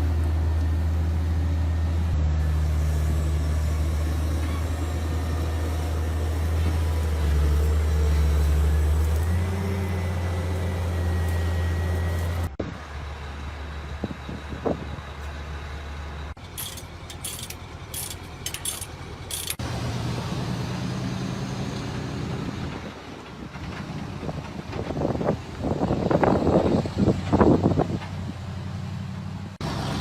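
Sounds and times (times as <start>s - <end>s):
heavy truck engines droning: 0.0s - 30.0s.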